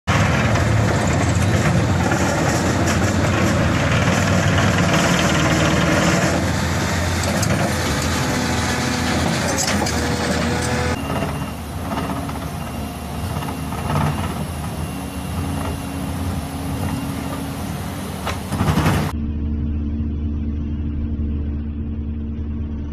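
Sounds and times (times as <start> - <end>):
excavator diesel engine: 0.0 - 19.2.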